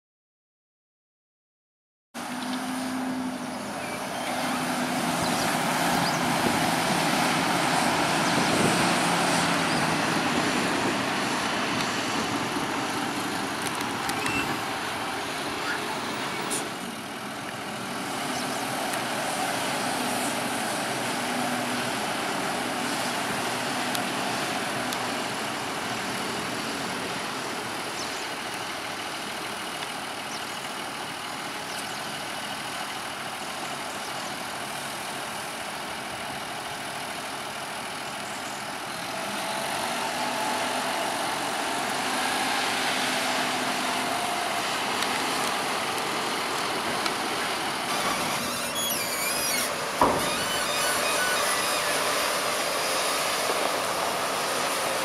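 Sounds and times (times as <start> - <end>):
tractor engine running: 2.2 - 55.0.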